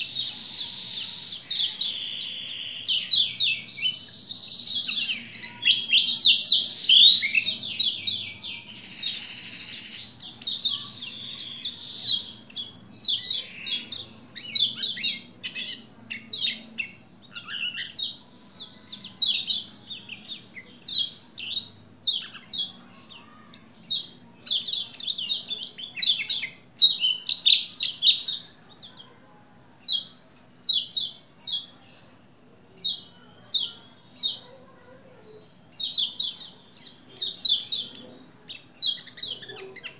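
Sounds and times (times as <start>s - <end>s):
bird singing high chirps: 0.0s - 32.1s, 32.7s - 39.9s.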